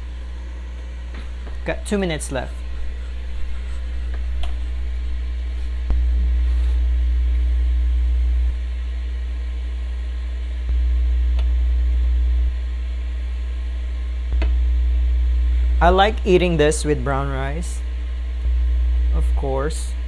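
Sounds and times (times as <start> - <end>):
indoor grill humming: 0.0 - 20.0.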